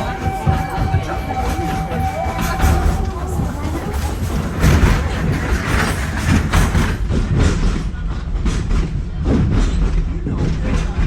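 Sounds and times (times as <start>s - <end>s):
train rumbling: 0.0s - 11.0s
wheels clacking over rail joints: 0.0s - 11.0s.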